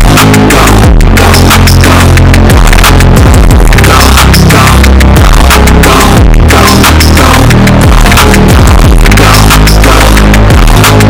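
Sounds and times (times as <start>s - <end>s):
hip-hop music with heavy bass: 0.0s - 11.0s.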